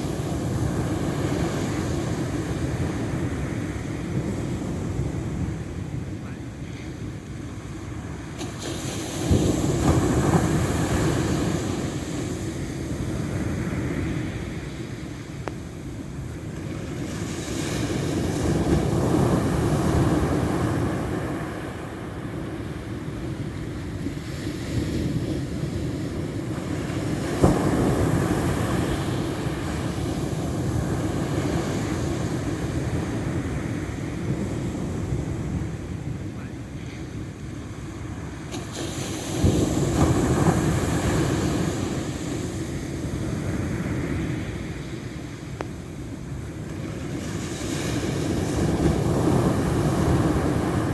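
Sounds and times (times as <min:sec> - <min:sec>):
ocean waves washing onto shore: 0:00.0 - 0:50.9.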